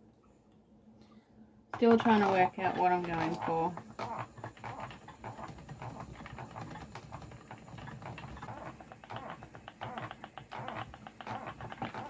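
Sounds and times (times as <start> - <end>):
spinning wheel clicking and rattling: 1.8 - 12.0.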